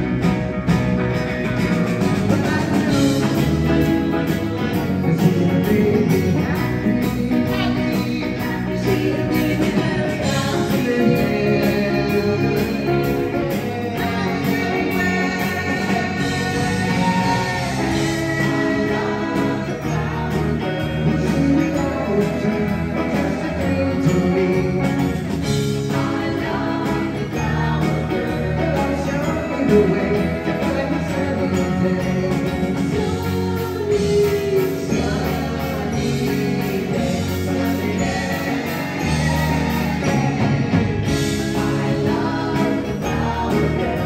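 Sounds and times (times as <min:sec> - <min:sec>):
live pop-rock band: 0:00.0 - 0:44.0
voices singing together: 0:02.2 - 0:44.0.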